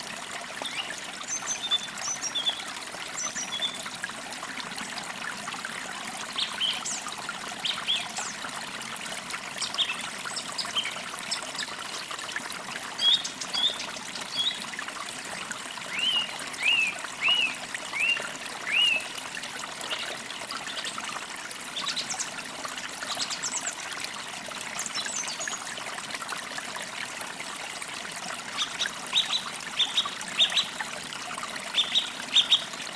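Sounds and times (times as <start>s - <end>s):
running water trickling: 0.0s - 32.9s.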